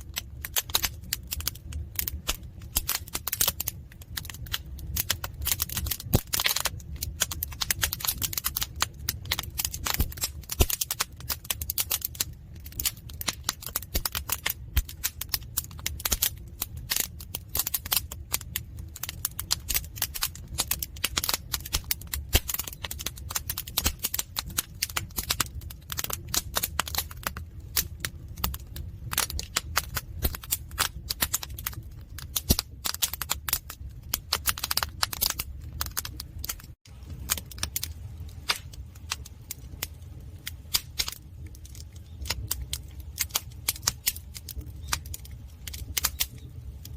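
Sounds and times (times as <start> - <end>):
firewood crackling and popping: 0.0 - 46.9
low rumble of fire: 0.0 - 46.9.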